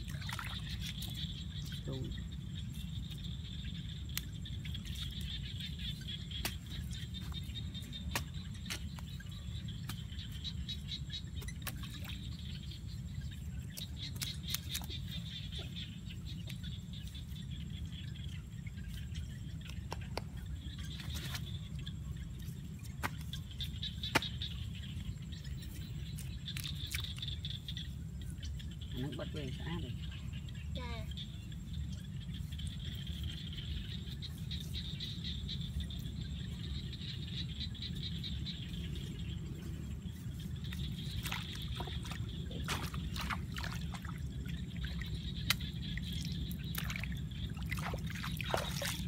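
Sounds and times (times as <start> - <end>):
insects trilling: 0.0 - 49.0
steady low rumble: 0.0 - 49.0.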